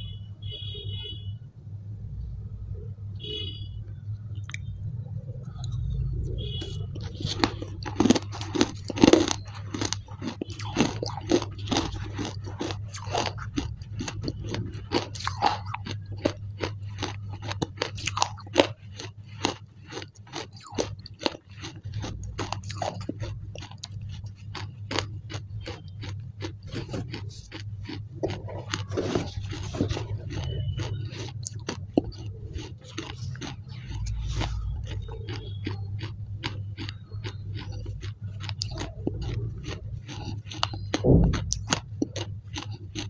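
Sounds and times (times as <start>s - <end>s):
steady low hum: 0.0s - 43.0s
crunching and wet mouth clicks: 4.3s - 4.7s, 5.3s - 43.0s.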